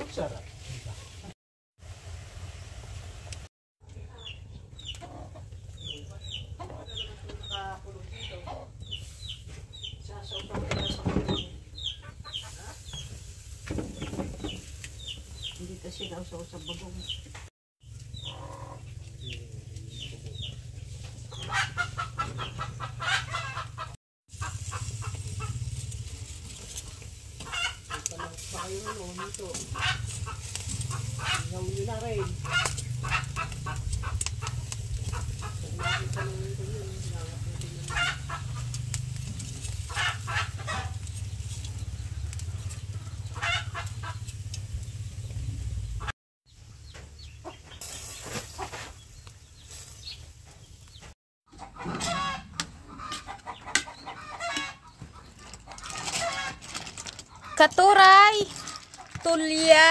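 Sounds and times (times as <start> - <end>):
chickens clucking and peeping: 3.8 - 58.8.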